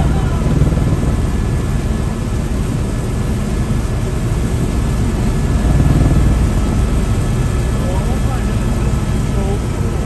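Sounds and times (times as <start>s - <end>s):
helicopter cabin drone: 0.0s - 10.0s.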